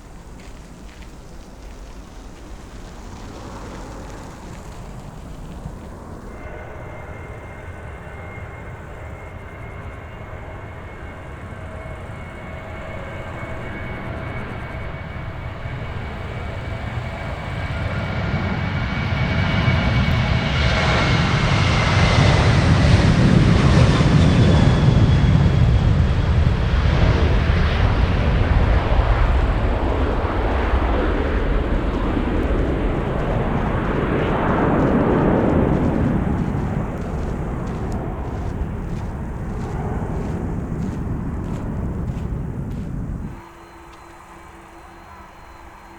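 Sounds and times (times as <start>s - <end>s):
jet airliner passing: 0.0s - 45.9s.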